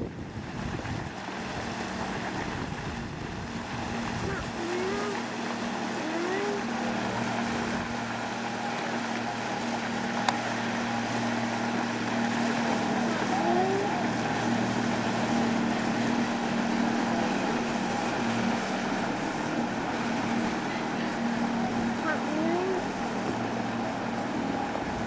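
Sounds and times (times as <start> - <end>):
outboard motor humming: 0.0 - 25.0
steady rushing water: 0.0 - 25.0.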